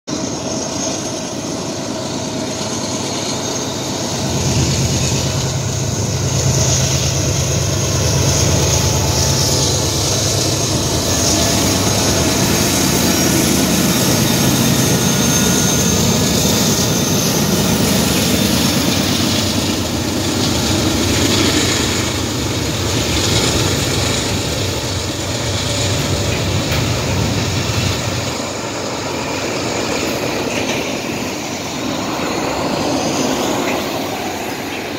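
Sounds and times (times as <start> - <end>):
locomotive engine drone: 0.1 - 34.9
freight cars rolling: 3.0 - 34.9.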